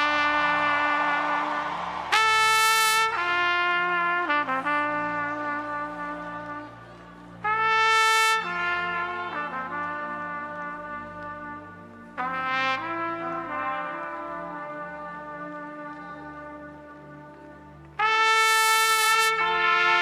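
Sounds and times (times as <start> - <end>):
solo trumpet playing: 0.0 - 20.0.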